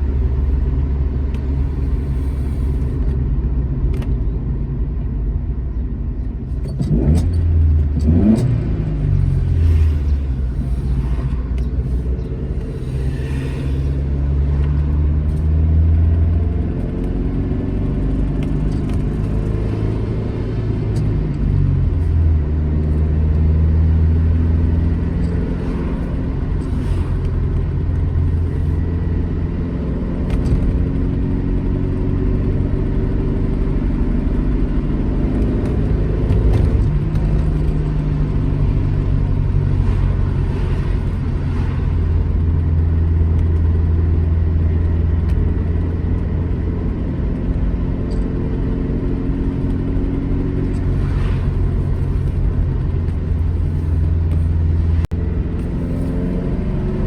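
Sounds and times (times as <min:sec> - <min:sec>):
car engine driving: 0:00.0 - 0:57.0.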